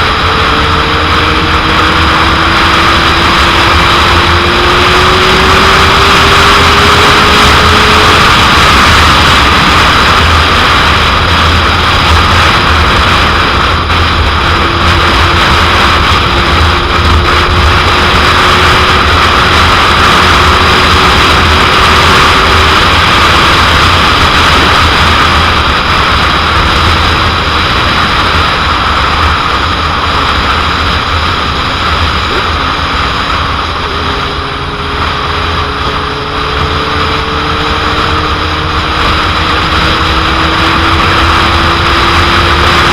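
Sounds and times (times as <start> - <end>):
faint motorcycle engine: 0.0 - 42.9.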